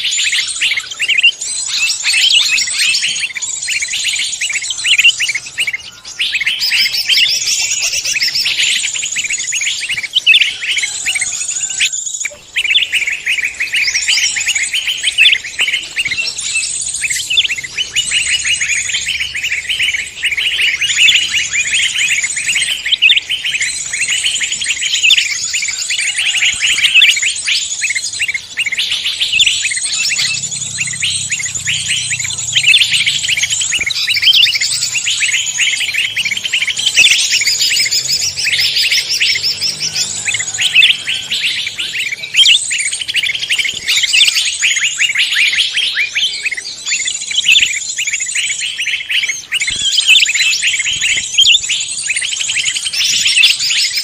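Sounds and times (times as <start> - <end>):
songbirds chorus: 0.0 - 54.0.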